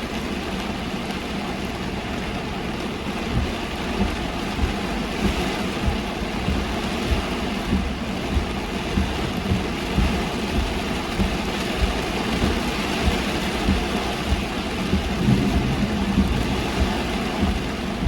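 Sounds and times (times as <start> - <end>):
car engine running: 0.0 - 18.0
rain and tyre spray hiss: 0.0 - 18.0
low thumps: 3.2 - 18.0.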